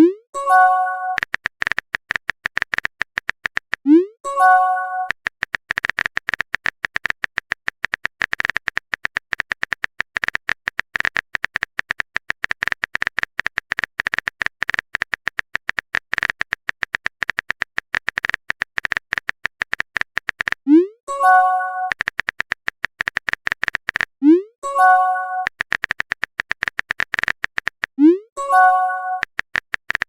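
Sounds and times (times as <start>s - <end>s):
phone keyboard clicks: 0.6s - 3.8s, 4.5s - 20.6s, 21.4s - 24.2s, 25.4s - 28.0s, 28.6s - 30.0s.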